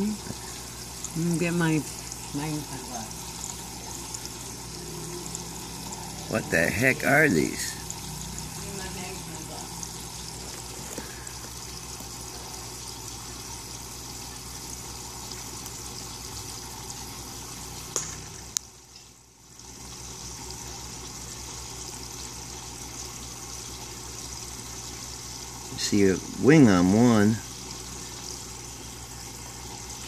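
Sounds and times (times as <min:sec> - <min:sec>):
trickling running water: 0:00.0 - 0:30.0.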